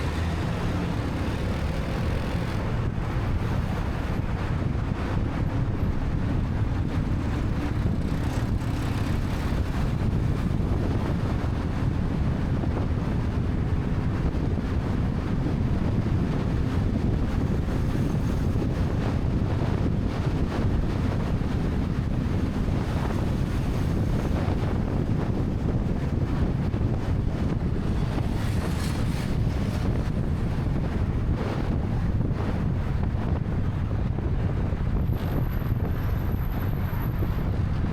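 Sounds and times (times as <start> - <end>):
road noise: 0.0 - 37.9
wind rushing over microphone: 0.0 - 37.9.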